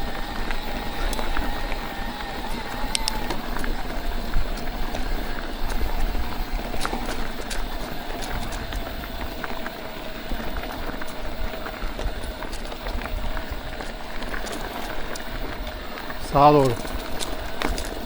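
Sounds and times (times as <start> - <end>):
bike chain and frame rattling: 0.0 - 18.0
tyres crunching on loose ground: 0.0 - 18.0.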